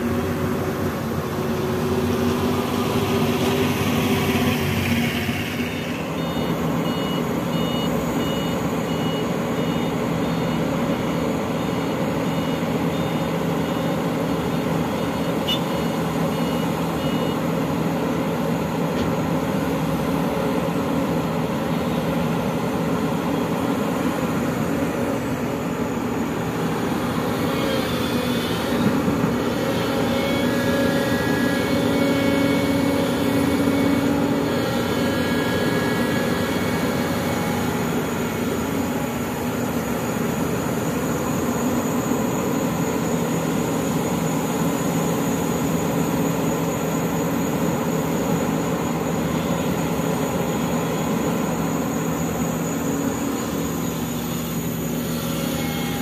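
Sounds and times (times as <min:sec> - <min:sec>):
excavator diesel engine running: 0:00.0 - 0:56.0
hydraulic whine: 0:00.0 - 0:56.0.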